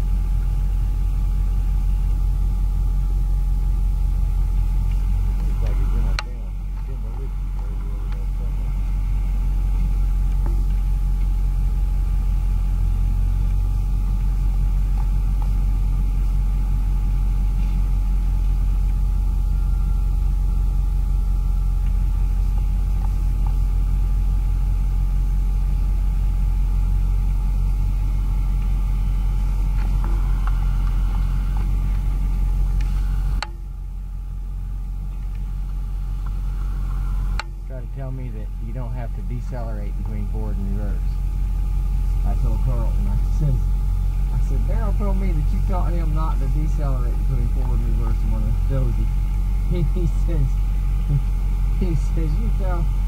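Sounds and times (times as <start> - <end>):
bulldozer diesel engine rumbling: 0.0 - 53.0.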